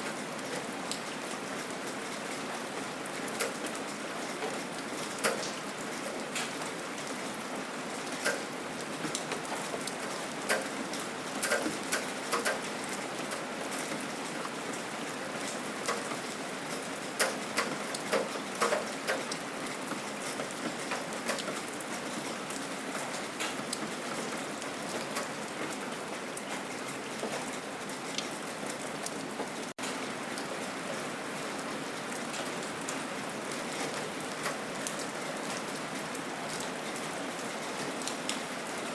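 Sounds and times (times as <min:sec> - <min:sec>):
gentle rain pattering: 0:00.0 - 0:38.9
raindrops ticking close by: 0:00.1 - 0:38.9.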